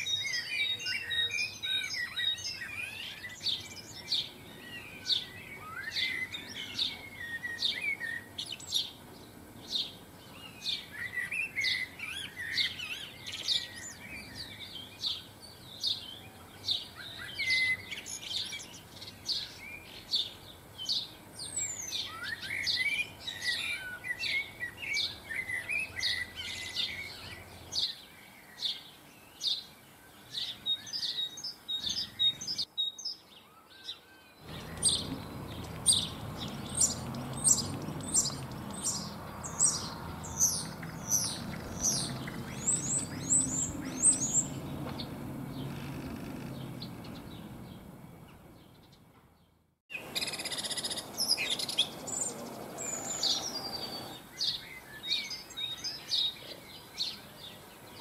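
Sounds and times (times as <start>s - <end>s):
birds twittering warble: 0.0s - 58.0s
songbirds chirping: 0.0s - 58.0s.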